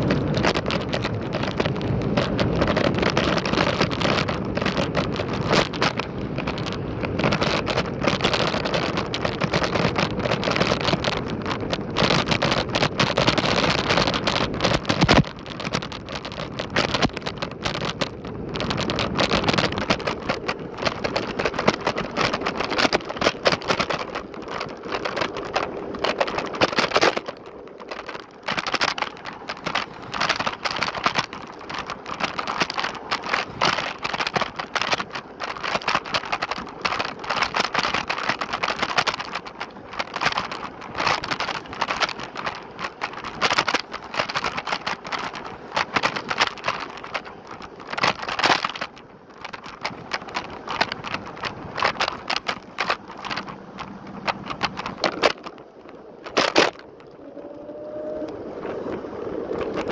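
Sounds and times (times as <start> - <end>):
scooter rattling and knocking: 0.0 - 59.9
steady rushing noise: 0.0 - 59.9.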